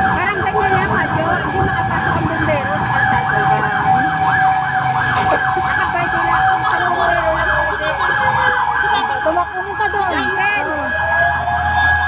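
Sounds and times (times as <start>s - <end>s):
siren yelping up and down: 0.0s - 12.0s
steady siren tone: 0.0s - 12.0s.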